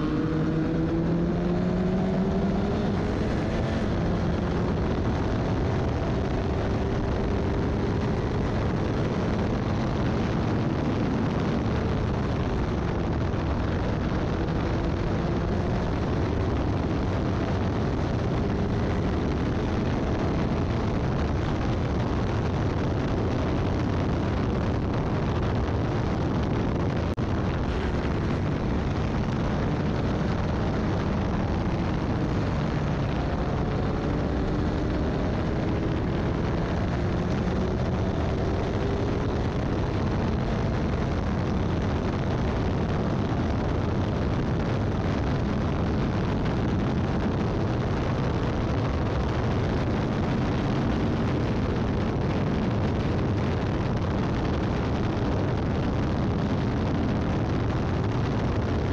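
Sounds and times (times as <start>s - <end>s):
engine note rising and falling: 0.0s - 57.1s
race car rumbling at speed: 0.0s - 58.9s.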